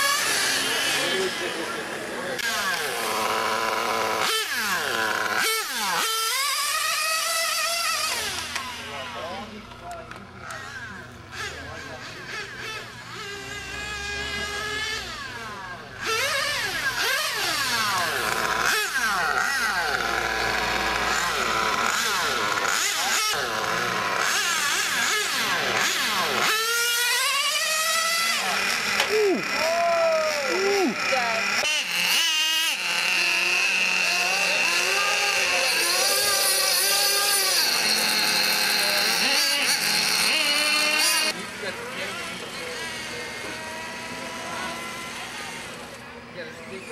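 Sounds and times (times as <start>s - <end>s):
radio-controlled car motors whining: 0.0s - 46.9s.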